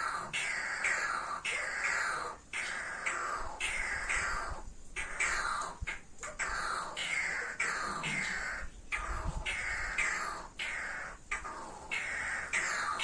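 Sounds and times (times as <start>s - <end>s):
birds giving harsh scratchy calls: 0.0s - 13.0s.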